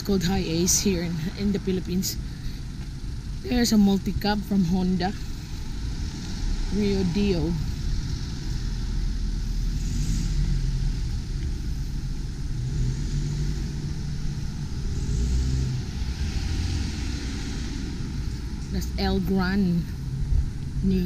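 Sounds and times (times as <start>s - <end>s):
cars driving past: 0.0s - 21.0s
deep continuous rumble: 0.0s - 21.0s.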